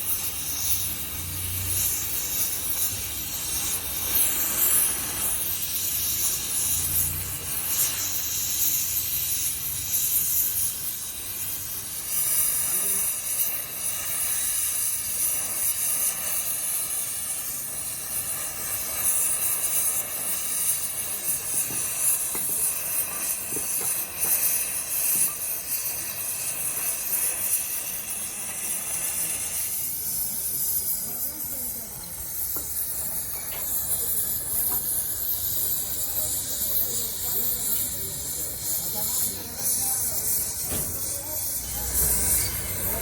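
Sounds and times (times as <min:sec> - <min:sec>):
loud high-pitched hiss: 0:00.0 - 0:43.0.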